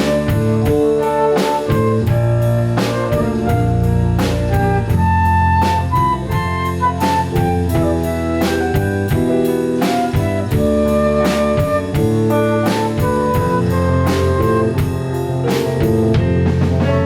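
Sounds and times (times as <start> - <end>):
instrumental jazz-pop music: 0.0 - 17.0.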